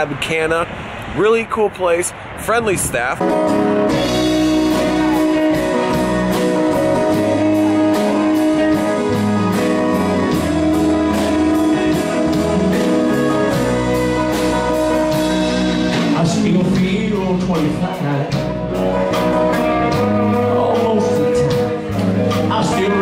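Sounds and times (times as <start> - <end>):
guitar-led band music: 2.9 - 23.0
bass line: 3.2 - 23.0
steady drum beat: 3.9 - 23.0.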